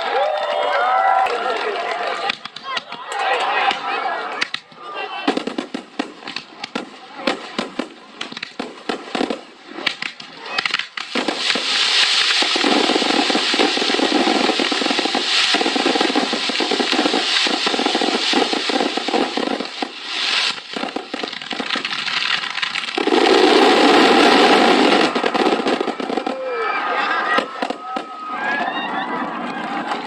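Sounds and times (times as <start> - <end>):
fireworks bursting and crackling: 0.2 - 30.0.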